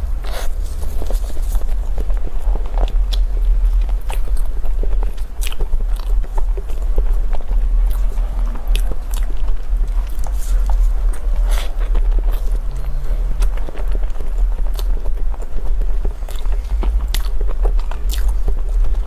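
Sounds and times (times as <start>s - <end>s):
crunchy chewing: 0.0s - 19.0s
steady low hum: 0.0s - 19.0s.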